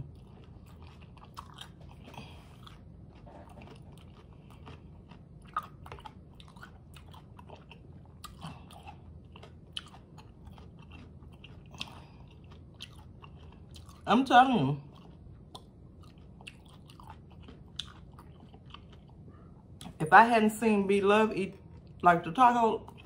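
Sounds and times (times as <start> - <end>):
crunchy taco being chewed: 0.0 - 20.0, 21.5 - 23.0.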